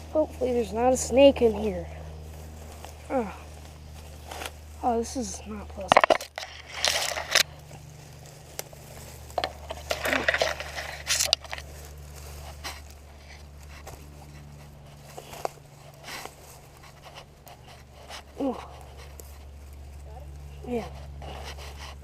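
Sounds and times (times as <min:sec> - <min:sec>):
rustling and crunching through brush: 0:00.0 - 0:22.0
steady low hum: 0:00.0 - 0:22.0.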